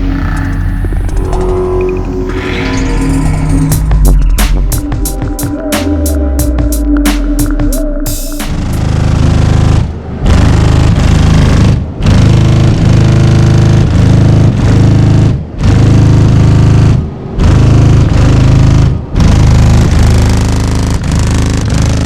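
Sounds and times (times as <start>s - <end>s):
loud car subwoofer bass: 0.0s - 2.4s, 3.0s - 22.0s.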